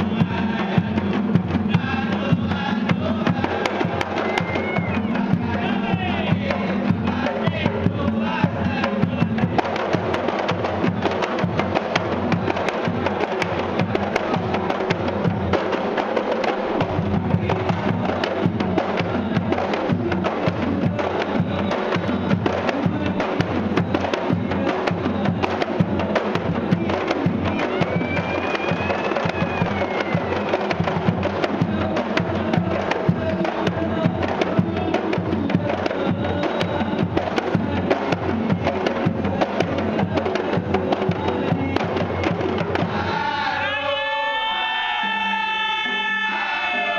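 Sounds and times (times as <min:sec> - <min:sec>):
person singing through microphone: 0:00.0 - 0:09.8, 0:17.2 - 0:46.9
frame drums beating: 0:00.0 - 0:43.6.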